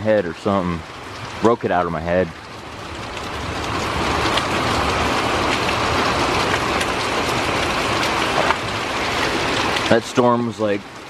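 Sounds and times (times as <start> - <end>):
rain drops ticking: 0.0 - 11.0
steady rain hissing: 0.0 - 11.0.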